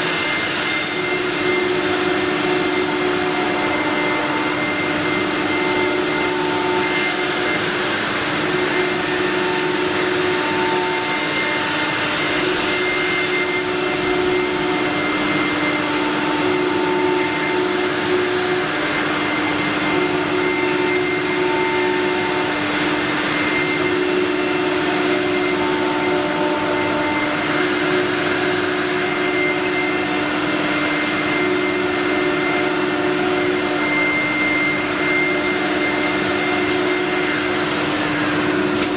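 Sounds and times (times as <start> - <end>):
wood router spindles whining: 0.0 - 38.9.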